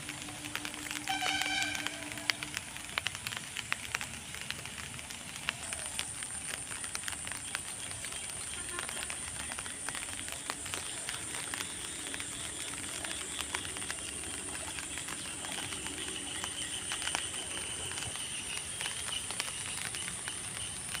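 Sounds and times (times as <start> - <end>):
small ticks: 0.0 - 21.0
steady high-pitched whine: 0.0 - 21.0
water splashing and dripping: 0.0 - 21.0.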